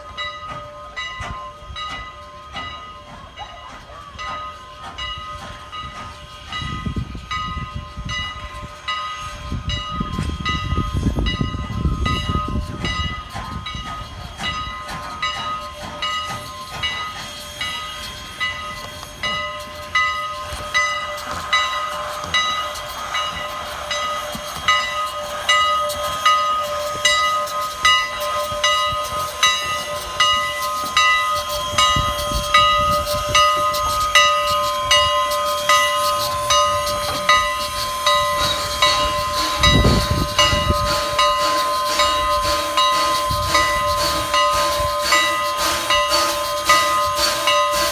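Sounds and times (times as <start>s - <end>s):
rhythmic train beat: 0.0s - 47.9s
steam hissing: 0.0s - 47.9s
steam train running past: 0.0s - 47.9s.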